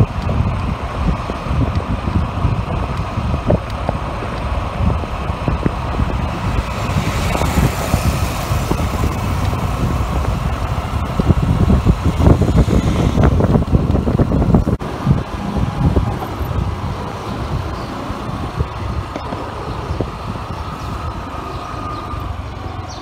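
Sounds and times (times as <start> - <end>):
vehicle engine and road noise: 0.0 - 23.0
wind buffeting microphone: 0.0 - 23.0.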